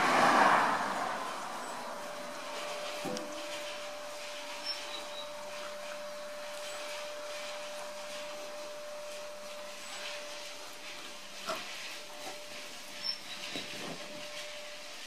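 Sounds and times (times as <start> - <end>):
faint thin whine: 1.4 - 15.0.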